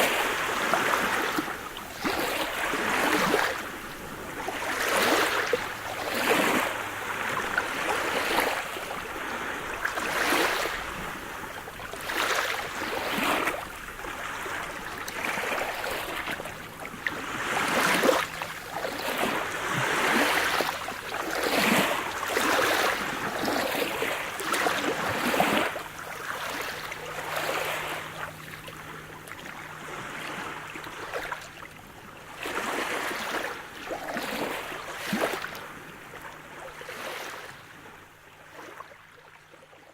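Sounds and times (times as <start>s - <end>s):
small waves washing in: 0.0s - 39.4s.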